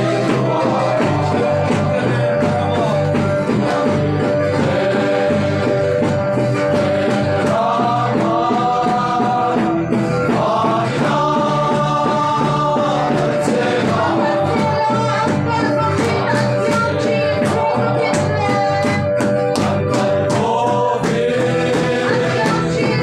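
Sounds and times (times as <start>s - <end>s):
group singing a hymn: 0.0s - 23.0s
steady music beat: 0.0s - 23.0s.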